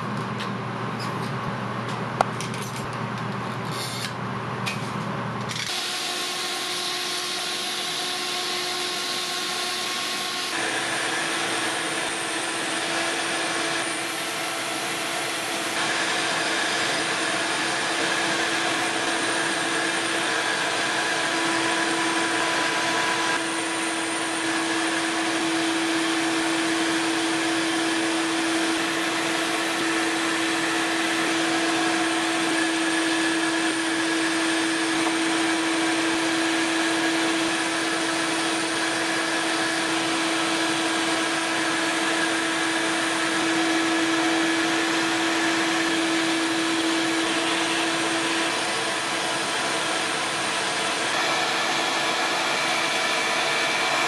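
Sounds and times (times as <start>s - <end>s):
shop vacuum running: 0.0s - 54.0s
rotary tool sanding whine: 5.6s - 54.0s.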